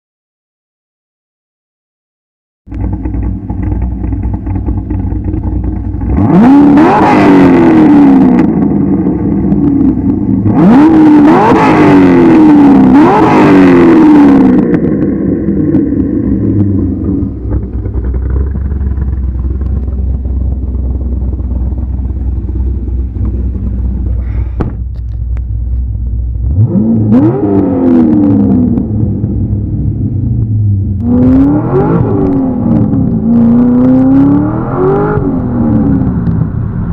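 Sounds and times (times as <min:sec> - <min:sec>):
car engine idling and revving: 0:02.7 - 0:36.9.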